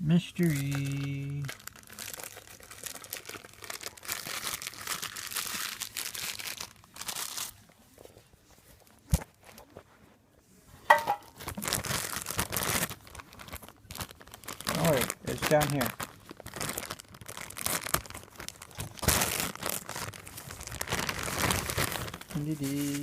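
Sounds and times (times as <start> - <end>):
packaging crinkling and tearing: 0.4 - 8.2, 11.2 - 23.0.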